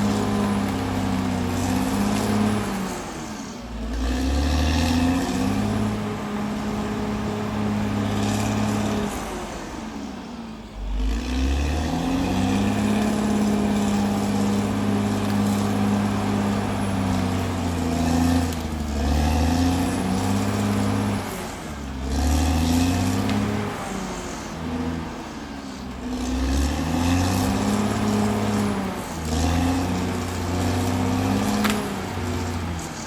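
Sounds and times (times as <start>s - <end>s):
bulldozer diesel engine revving: 0.0s - 33.0s.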